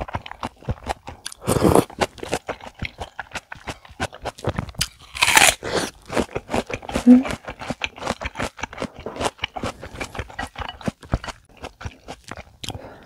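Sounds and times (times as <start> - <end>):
close chewing with mouth clicks: 0.0 - 13.0.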